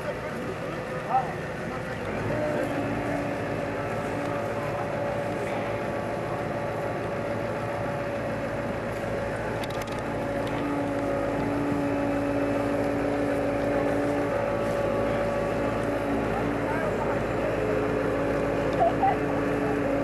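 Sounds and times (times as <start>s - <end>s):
diesel engine running: 0.0s - 20.0s
level whining tone: 0.0s - 20.0s.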